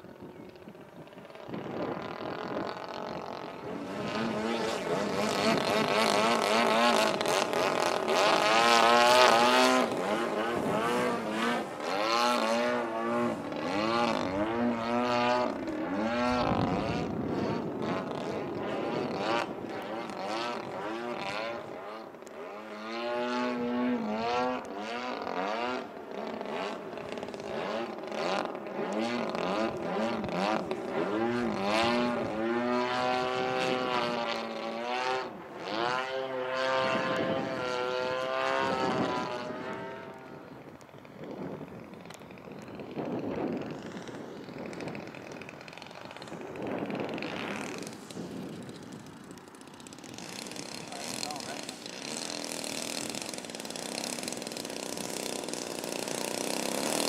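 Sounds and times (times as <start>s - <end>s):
model plane engine flying overhead: 0.0s - 57.0s.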